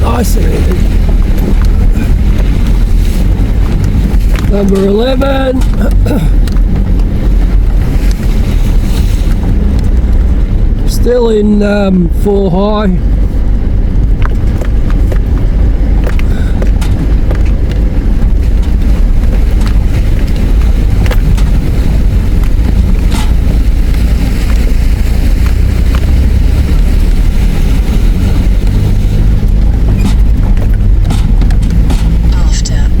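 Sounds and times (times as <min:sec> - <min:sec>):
knocks and rattles over bumps: 0:00.0 - 0:11.1, 0:13.0 - 0:33.0
engine and tyre rumble: 0:00.0 - 0:33.0.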